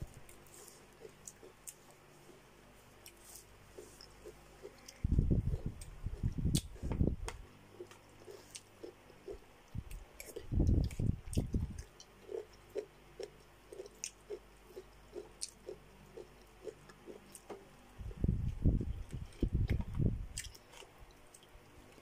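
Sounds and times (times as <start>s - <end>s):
chewing food: 0.0s - 22.0s.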